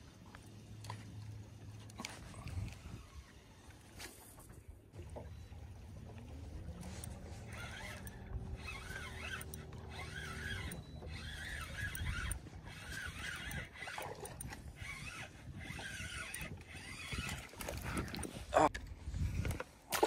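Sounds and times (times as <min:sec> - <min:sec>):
boat motor humming: 0:00.0 - 0:18.9.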